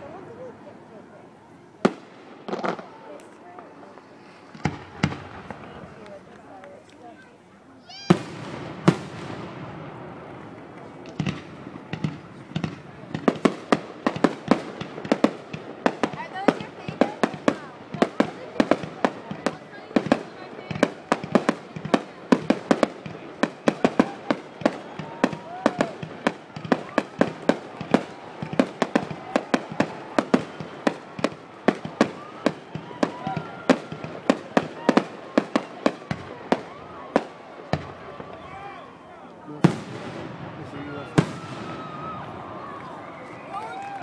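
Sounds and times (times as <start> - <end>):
faint fireworks crackling: 0.0 - 44.0
fireworks sharp bangs: 1.8 - 6.6, 7.9 - 38.8, 39.5 - 44.0.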